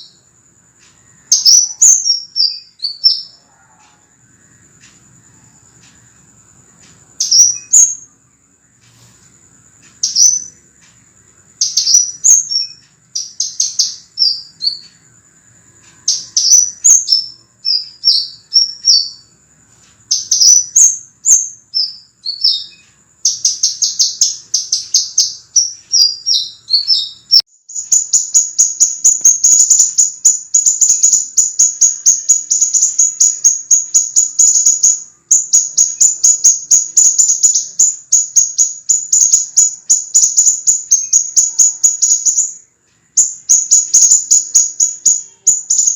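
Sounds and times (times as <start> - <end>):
bird high sharp chirping: 0.0 - 0.2, 0.8 - 4.0, 6.8 - 8.2, 8.9 - 10.9, 11.5 - 15.1, 15.8 - 45.9.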